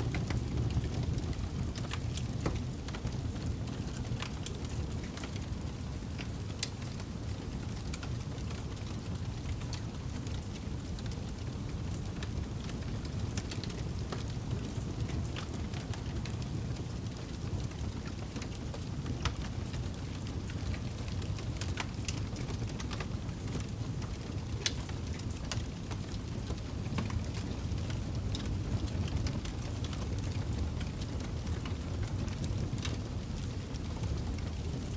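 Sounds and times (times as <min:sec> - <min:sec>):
campfire flames rushing: 0:00.0 - 0:34.9
fire crackles and pops: 0:00.0 - 0:34.9.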